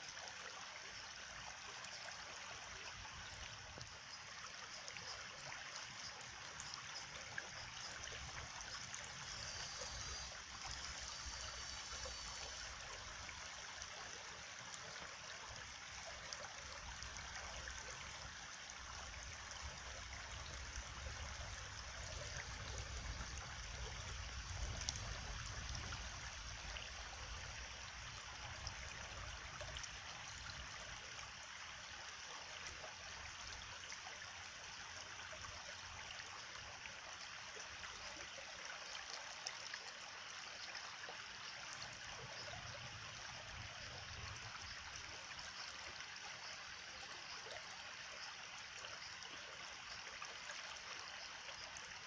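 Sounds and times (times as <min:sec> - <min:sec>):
stream water trickling: 0:00.0 - 0:52.0.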